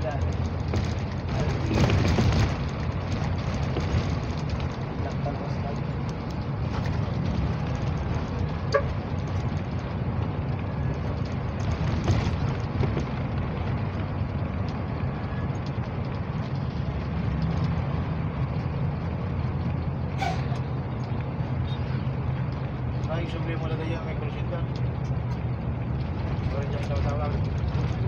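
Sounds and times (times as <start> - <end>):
road noise: 0.0 - 28.0
vehicle engine drone: 0.0 - 28.0.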